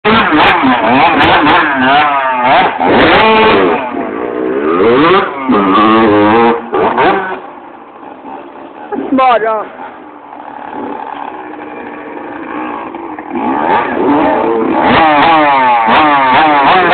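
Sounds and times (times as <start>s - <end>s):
dirt bike engines revving: 0.0s - 16.9s.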